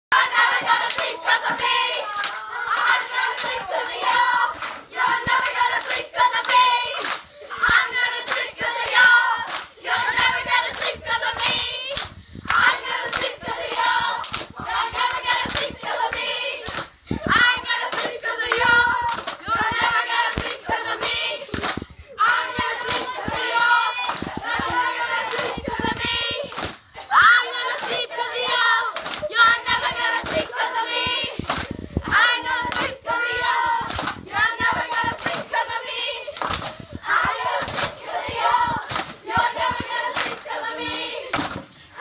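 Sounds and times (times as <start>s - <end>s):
children singing: 0.1s - 41.4s
children clapping in rhythm: 0.2s - 26.9s, 27.8s - 31.7s, 32.5s - 41.7s.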